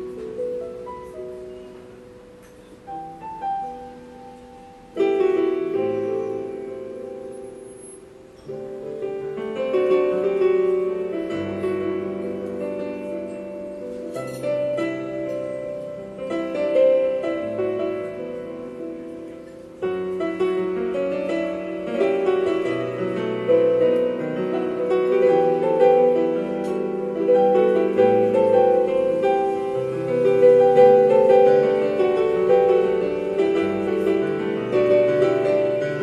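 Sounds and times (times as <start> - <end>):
solo piano: 0.0 - 36.0.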